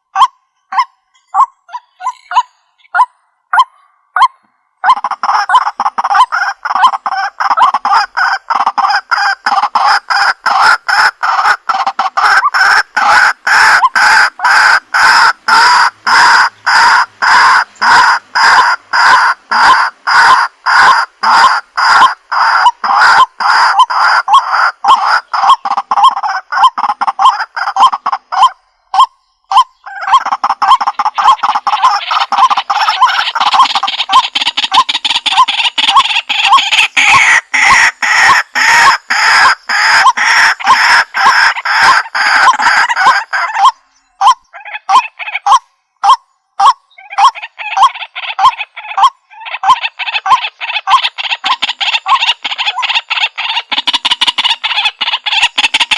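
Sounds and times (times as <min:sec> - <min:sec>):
waterhen calling harshly: 0:00.0 - 0:55.9.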